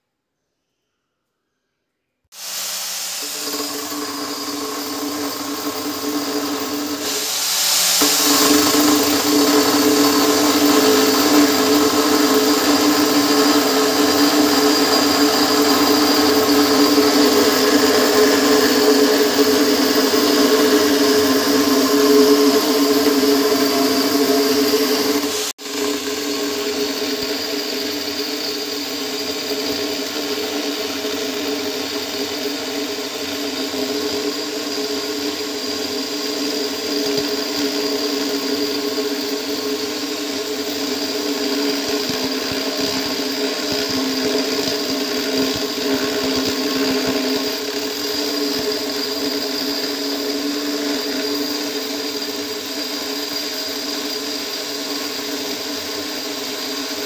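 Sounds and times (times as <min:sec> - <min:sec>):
angle grinder cutting stone: 0:02.4 - 0:57.0.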